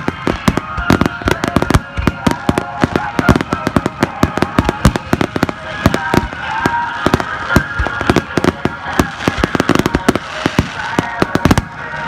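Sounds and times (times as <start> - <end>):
fireworks bangs and bursts: 0.0 - 12.0.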